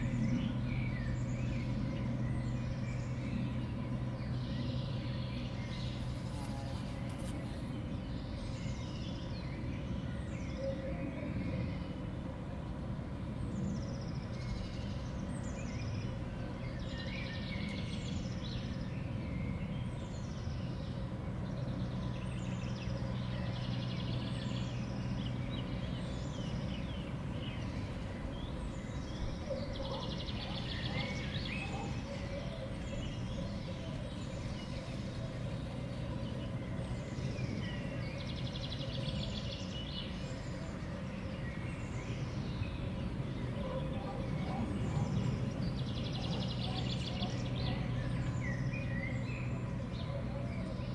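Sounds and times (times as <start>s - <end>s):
steady low background hum: 0.0s - 10.6s, 11.2s - 50.9s
songbirds calling: 0.0s - 50.9s.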